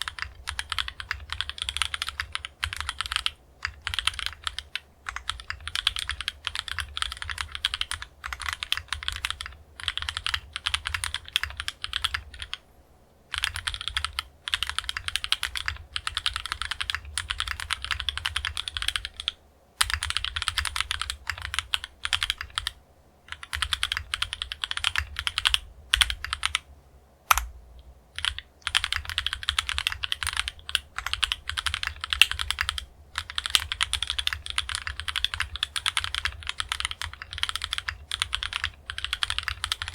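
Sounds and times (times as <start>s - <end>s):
mechanical keyboard typing: 0.0s - 12.6s, 13.3s - 26.7s, 27.3s - 27.5s, 28.1s - 39.9s.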